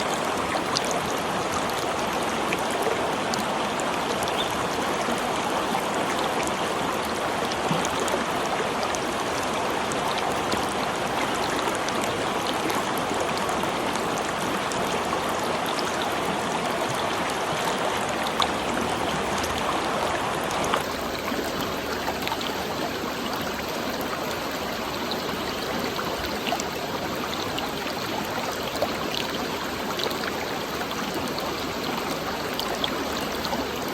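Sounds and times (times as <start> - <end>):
water rushing: 0.0 - 33.9
water splashes and drips: 0.0 - 33.9.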